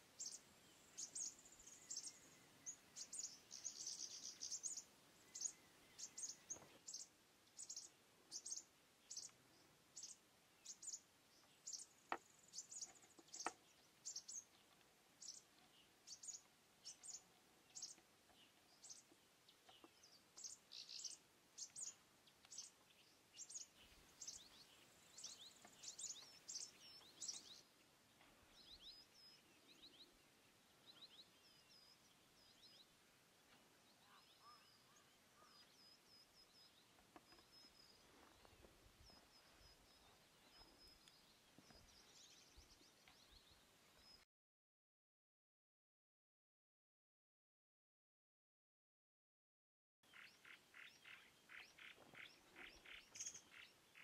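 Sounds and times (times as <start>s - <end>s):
faint high bird chirps: 0.2s - 27.8s, 28.4s - 32.9s, 33.8s - 44.3s, 50.0s - 54.0s.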